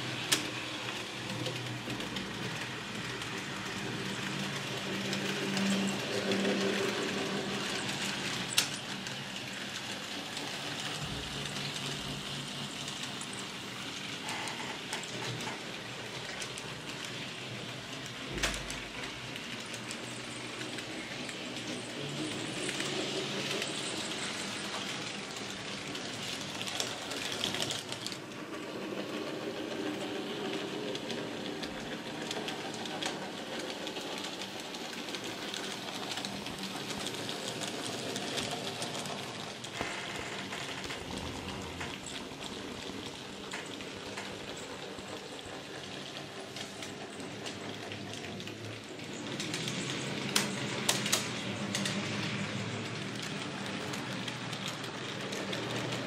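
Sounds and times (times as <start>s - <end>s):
model train motors whirring: 0.0s - 56.0s
wheels rolling over track: 0.0s - 56.0s.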